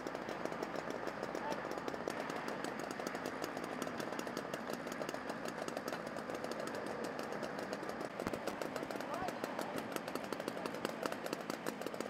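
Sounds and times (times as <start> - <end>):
engine idling with clatter: 0.0 - 12.0.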